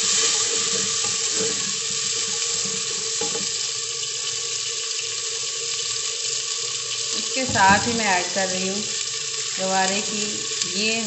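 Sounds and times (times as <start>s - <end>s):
stirring in a pan: 0.0s - 10.7s
vegetables sizzling in hot oil: 0.0s - 11.0s.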